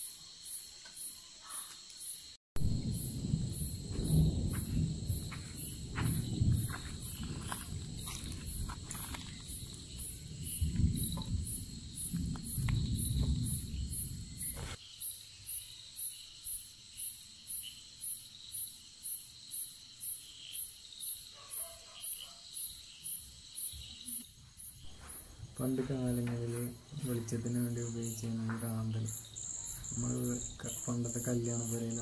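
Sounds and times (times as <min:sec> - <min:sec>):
cricket chirping: 0:00.0 - 0:32.0
high insect buzz: 0:00.0 - 0:32.0.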